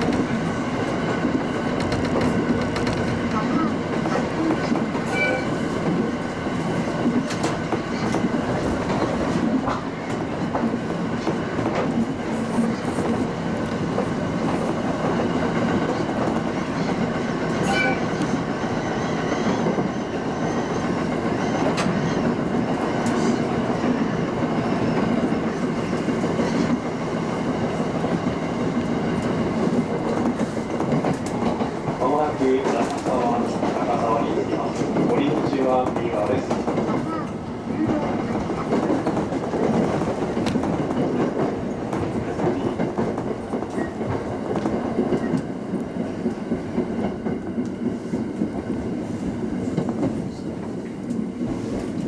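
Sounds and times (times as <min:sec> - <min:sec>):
train wheels rumbling on rail: 0:00.0 - 0:52.0
wheels clickety-clack on rail joints: 0:00.0 - 0:52.0.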